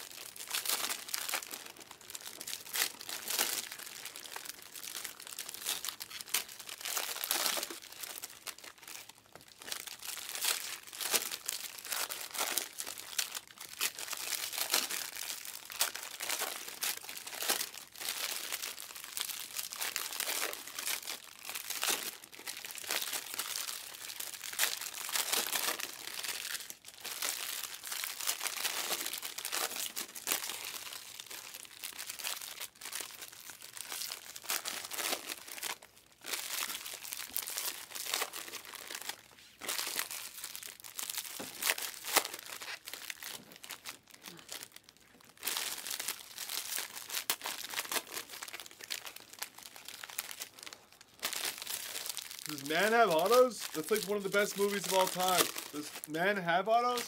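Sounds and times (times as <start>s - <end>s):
foil wrappers tearing and crinkling: 0.0s - 57.0s.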